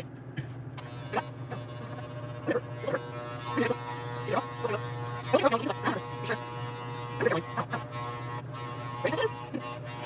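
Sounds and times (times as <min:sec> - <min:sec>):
electric hair clippers buzzing: 0:00.8 - 0:10.0.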